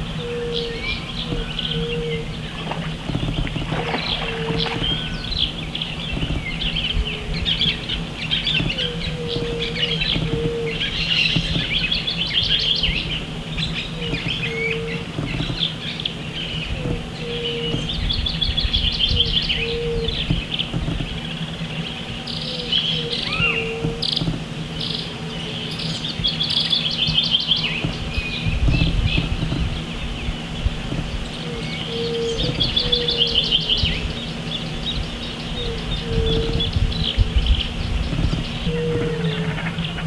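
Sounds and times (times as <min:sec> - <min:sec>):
birds chirping and trilling: 0:00.0 - 0:40.0
steady low hum: 0:00.0 - 0:40.0.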